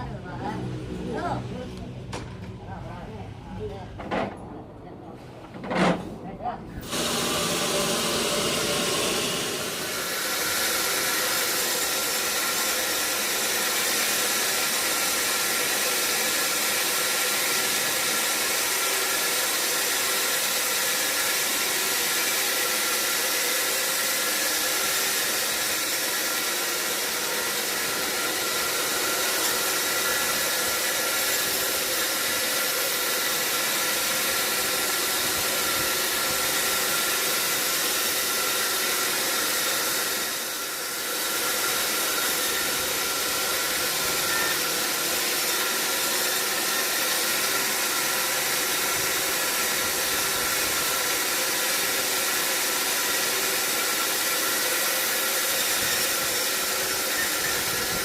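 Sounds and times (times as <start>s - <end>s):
saw cutting through log: 6.8s - 58.0s.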